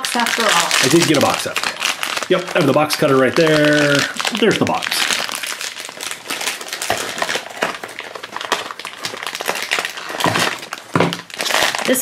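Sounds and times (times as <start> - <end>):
cardboard packaging crackling: 0.0 - 12.0.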